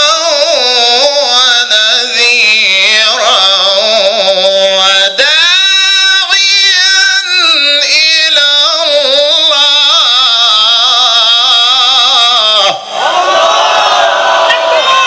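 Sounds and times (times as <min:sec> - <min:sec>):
man chanting into a microphone: 0:00.0 - 0:12.9.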